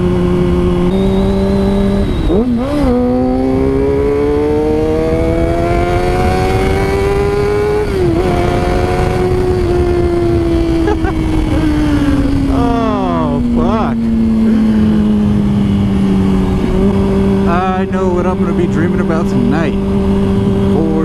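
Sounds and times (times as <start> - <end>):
wind rushing over microphone: 0.0 - 18.3
motorcycle engine at speed: 0.0 - 21.0.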